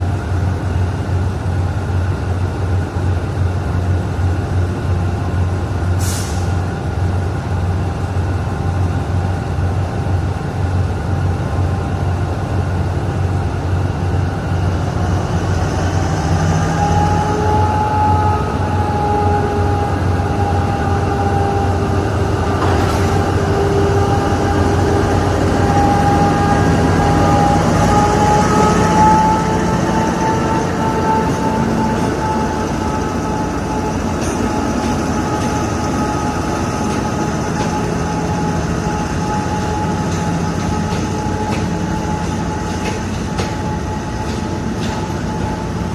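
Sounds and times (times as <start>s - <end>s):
diesel locomotive rumbling and whining: 0.0s - 45.9s.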